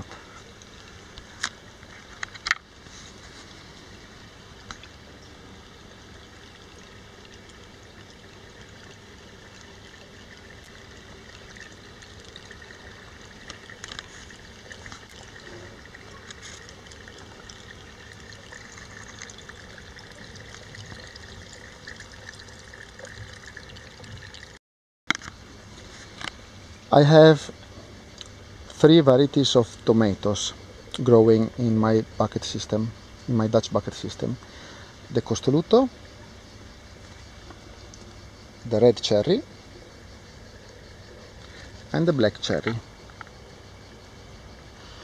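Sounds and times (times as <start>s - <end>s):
water trickling: 0.0s - 24.6s, 29.5s - 44.7s.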